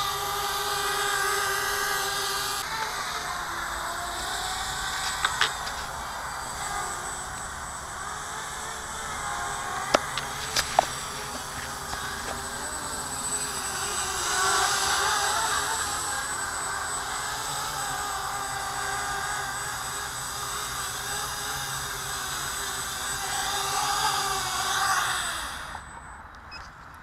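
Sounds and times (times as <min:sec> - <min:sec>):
quadcopter propellers whirring: 0:00.0 - 0:26.9.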